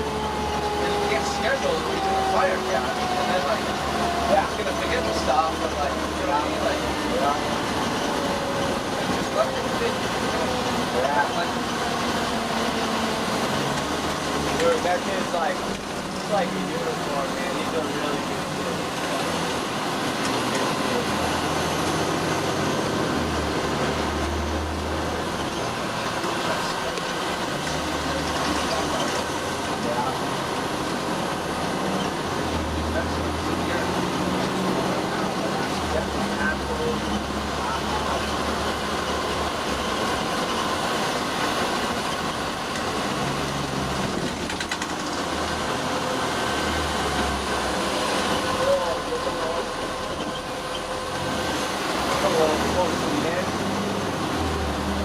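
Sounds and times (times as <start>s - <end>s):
fire engine running: 0.0s - 55.0s
road noise: 0.0s - 55.0s.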